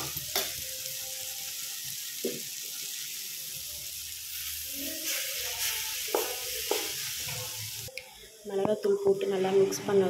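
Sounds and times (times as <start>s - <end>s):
masala sizzling in a pan: 0.0s - 9.8s.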